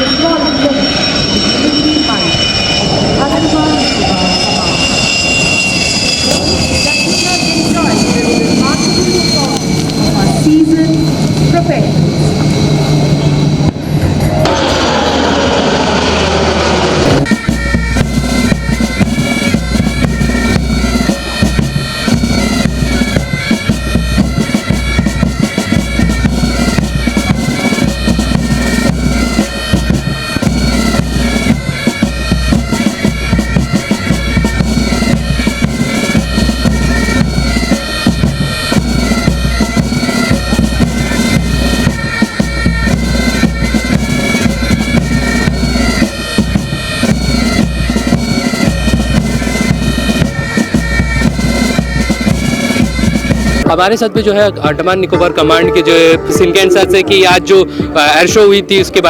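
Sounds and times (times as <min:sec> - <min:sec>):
wind instrument melody: 0:00.0 - 0:59.0
heavy drum beat: 0:07.6 - 0:59.0.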